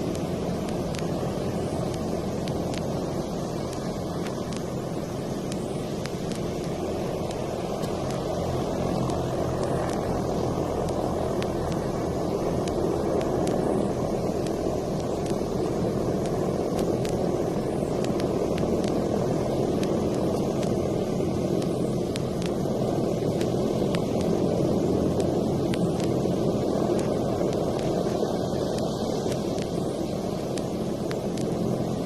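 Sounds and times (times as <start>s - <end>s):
faint ticks: 0.0s - 32.0s
vehicle running steadily: 0.0s - 32.0s.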